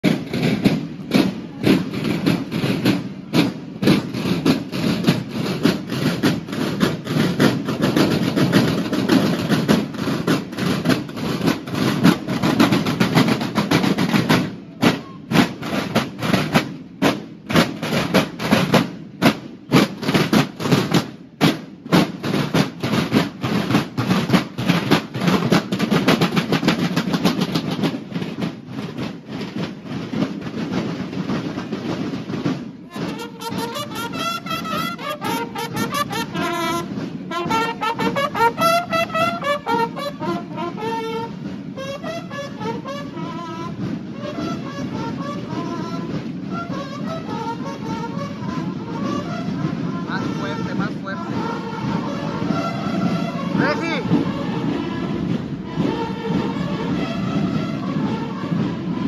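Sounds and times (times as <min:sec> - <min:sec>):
snare drums marching cadence: 0:00.0 - 0:59.0.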